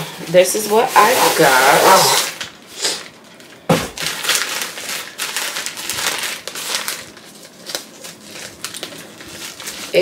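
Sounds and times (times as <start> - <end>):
packaging crinkling and rustling: 0.6 - 10.0.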